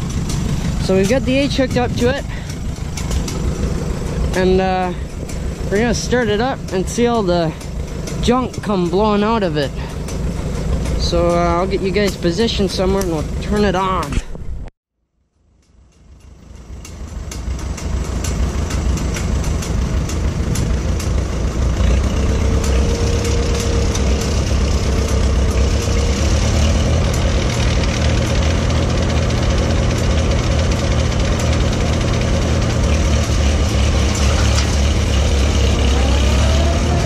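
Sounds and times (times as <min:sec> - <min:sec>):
mechanical rattle: 0:00.0 - 0:14.2, 0:15.5 - 0:36.6
tractor engine rumble: 0:00.0 - 0:14.8, 0:15.4 - 0:37.0.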